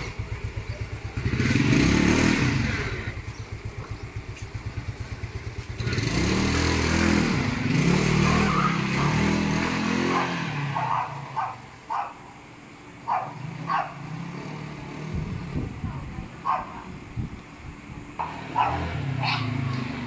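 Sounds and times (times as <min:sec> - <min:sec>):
scooter pulling away: 0:00.0 - 0:11.8, 0:13.2 - 0:16.5, 0:18.1 - 0:20.0
scooter engine idling and revving: 0:00.0 - 0:20.0.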